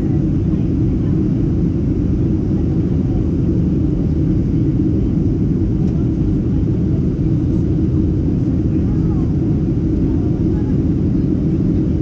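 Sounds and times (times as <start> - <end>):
airplane cabin rumble: 0.0 - 12.0
jet engines and airflow: 0.0 - 12.0.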